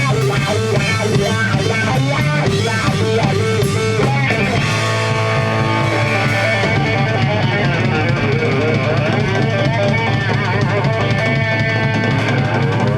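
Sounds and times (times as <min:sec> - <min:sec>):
guitar held notes: 0:00.0 - 0:12.9
rock band instrumental: 0:00.0 - 0:12.9.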